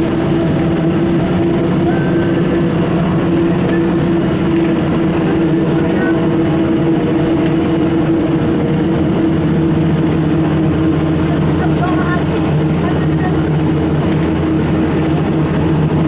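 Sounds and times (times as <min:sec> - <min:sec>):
bus diesel engine drone: 0:00.0 - 0:16.0
road and body rumble: 0:00.0 - 0:16.0.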